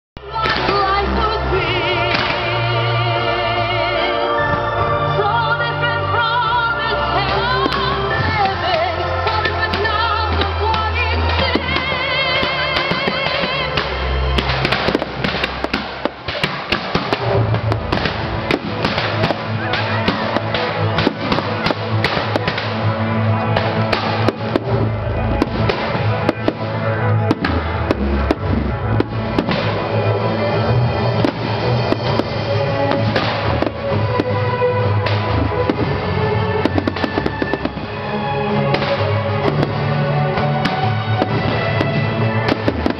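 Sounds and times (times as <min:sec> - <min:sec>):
music playing: 0:00.2 - 0:42.9
fireworks bursting and crackling: 0:07.1 - 0:42.9.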